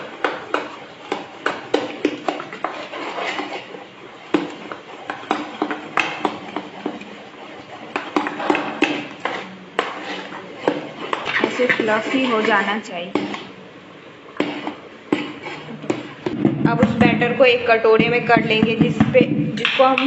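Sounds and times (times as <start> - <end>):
spoon beating batter in metal pot: 0.0 - 13.6, 14.3 - 20.0.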